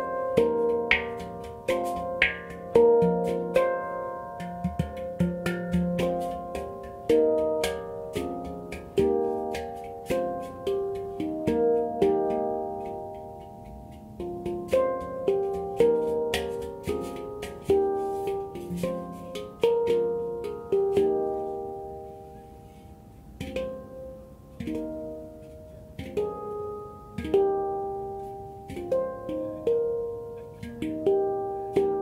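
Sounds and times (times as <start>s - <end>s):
handpan notes ringing: 0.0s - 32.0s.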